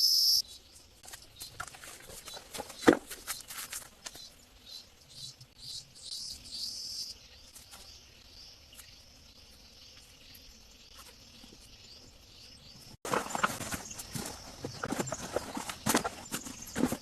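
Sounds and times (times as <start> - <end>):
birds chirping: 0.0 - 17.0
insects chirping: 0.0 - 17.0.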